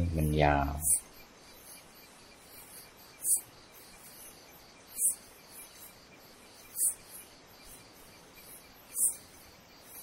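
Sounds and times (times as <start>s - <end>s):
high-pitched insect chirps: 0.0s - 10.0s
high-pitched insect hum: 0.0s - 10.0s.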